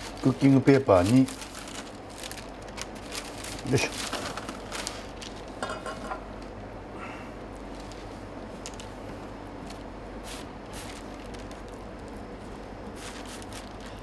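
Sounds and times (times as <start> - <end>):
kitchen hum: 0.0 - 14.0.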